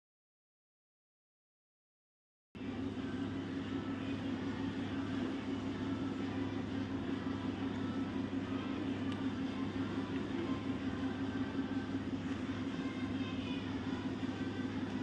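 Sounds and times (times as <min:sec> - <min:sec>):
mechanical hum: 0:02.6 - 0:15.0.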